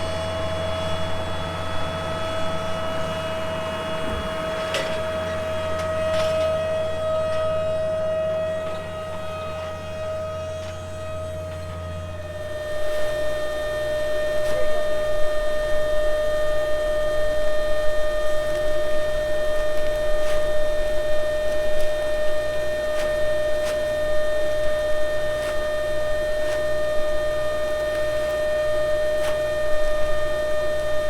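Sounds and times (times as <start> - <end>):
farm machinery whining: 0.0 - 31.0.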